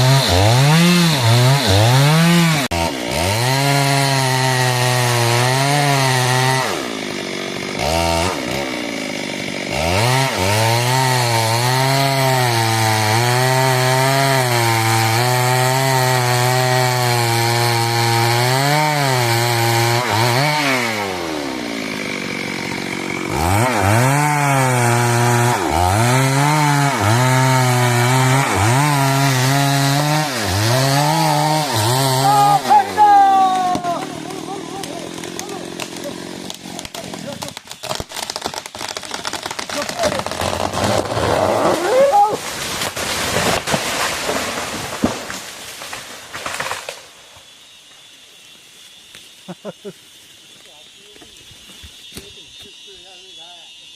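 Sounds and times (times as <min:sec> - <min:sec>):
chainsaw cutting wood: 0:00.0 - 0:47.6.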